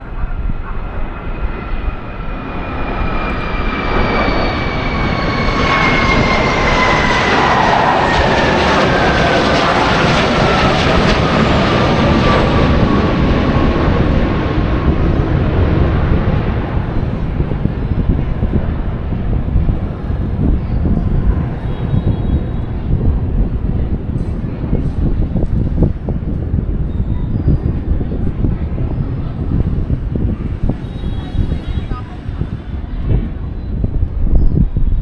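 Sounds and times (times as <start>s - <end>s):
aircraft flying over: 0.0s - 35.0s.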